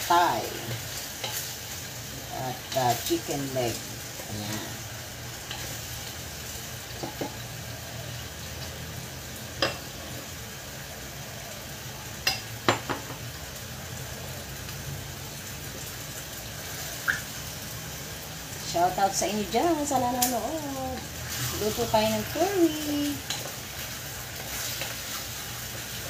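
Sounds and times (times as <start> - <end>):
chicken sizzling in a pot: 0.0 - 26.0.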